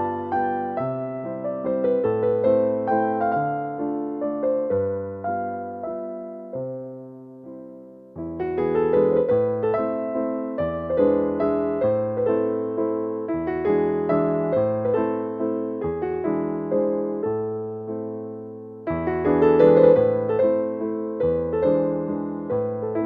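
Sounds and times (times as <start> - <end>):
slow piano melody: 0.0 - 23.0.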